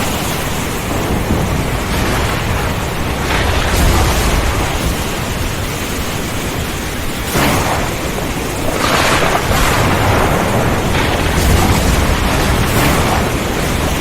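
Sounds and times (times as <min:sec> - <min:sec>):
heavy rain pouring: 0:00.0 - 0:14.0
thunder rumbling: 0:00.0 - 0:14.0.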